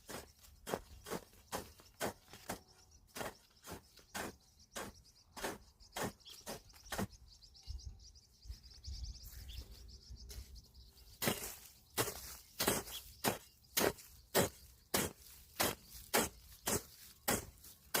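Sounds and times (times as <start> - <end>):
footsteps on dry ground: 0.0 - 7.4, 9.1 - 18.0
birds chirping: 0.0 - 18.0.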